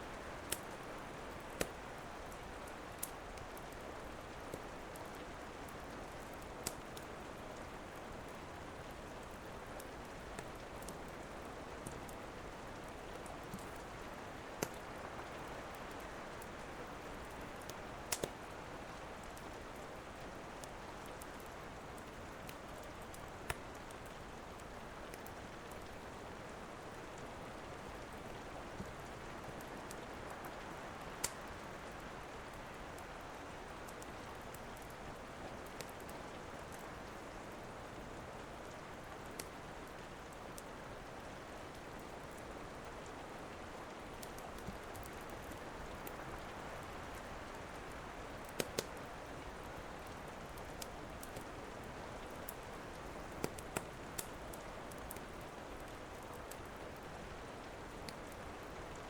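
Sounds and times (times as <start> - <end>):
rain hiss: 0.0 - 59.0
wood fire crackling and popping: 0.2 - 26.0, 28.2 - 37.0, 39.2 - 39.5, 44.0 - 57.1, 57.8 - 58.6.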